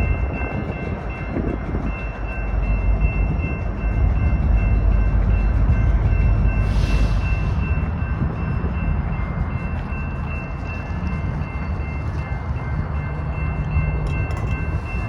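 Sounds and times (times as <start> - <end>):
crossing signal bell ringing: 0.0 - 15.0
train rumbling past: 0.0 - 15.0.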